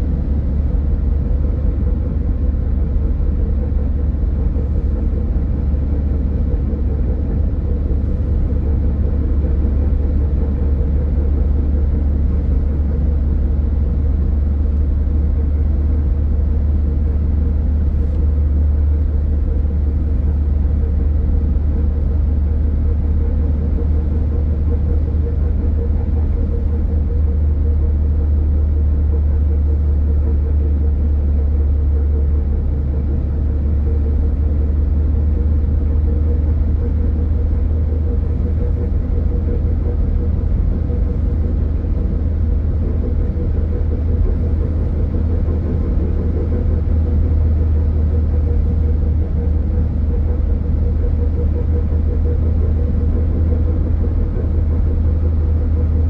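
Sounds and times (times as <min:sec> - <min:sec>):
car engine and road noise: 0:00.0 - 0:56.0
steady hum: 0:00.0 - 0:56.0.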